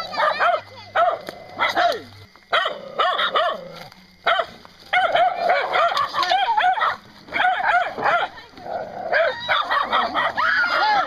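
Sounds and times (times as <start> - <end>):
small dog barking: 0.1 - 8.4, 9.1 - 10.4.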